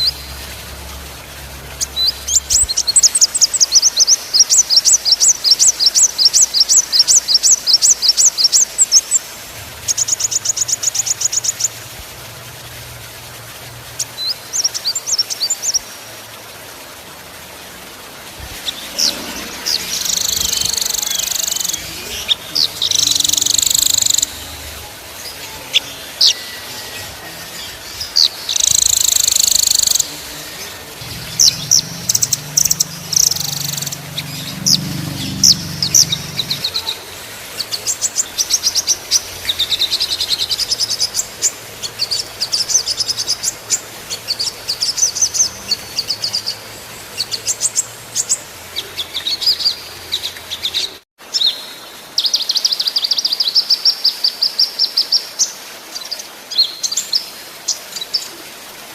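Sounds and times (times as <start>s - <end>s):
songbirds chirping and trilling: 0.0s - 12.9s, 13.5s - 58.9s.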